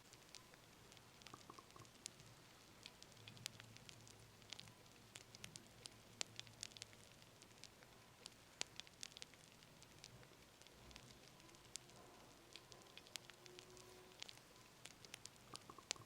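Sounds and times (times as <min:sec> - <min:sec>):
faint low hiss: 0:00.0 - 0:16.0
fire crackling: 0:00.0 - 0:16.0.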